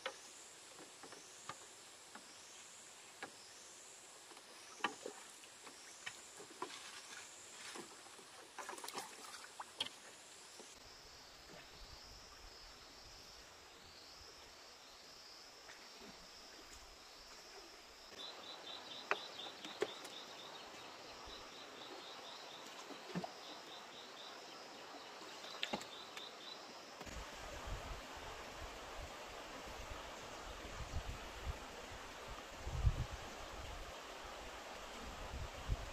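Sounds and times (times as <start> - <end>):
insects chirping: 0.0 - 34.5.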